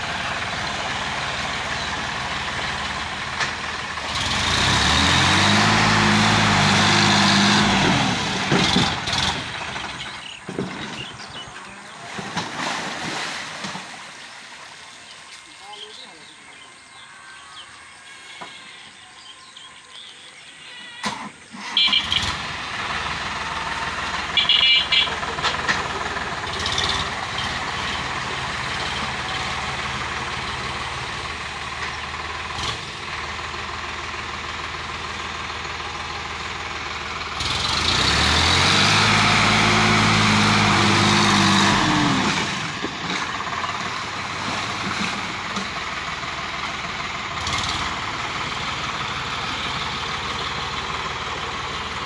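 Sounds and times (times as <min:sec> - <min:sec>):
tractor diesel engine revving: 0:00.0 - 0:14.0, 0:21.0 - 0:52.0.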